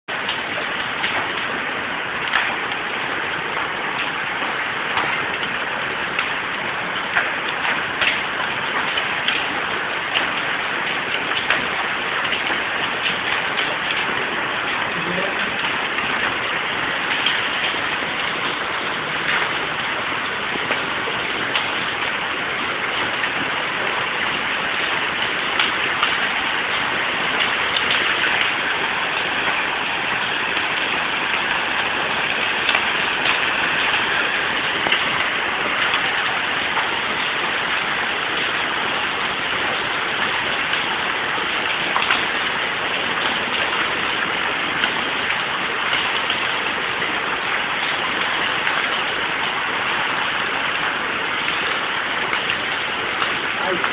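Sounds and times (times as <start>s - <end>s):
heavy rain and hail hiss: 0.0s - 53.9s
hailstones clicking: 0.2s - 2.9s, 3.6s - 53.9s.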